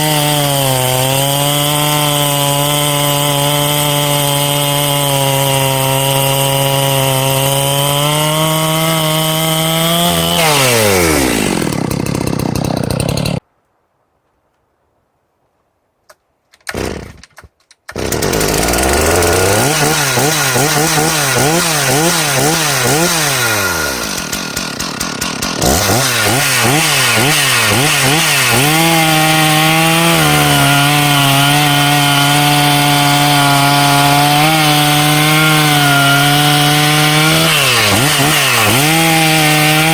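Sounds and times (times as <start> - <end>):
chainsaw cutting wood: 0.0 - 13.4, 16.5 - 39.9
chainsaw revving: 0.0 - 13.4, 16.7 - 39.9.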